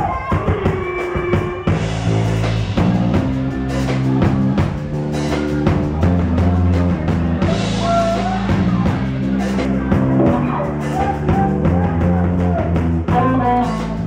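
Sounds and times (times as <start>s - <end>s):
drum kit: 0.0s - 14.0s
electric bass: 1.7s - 14.0s.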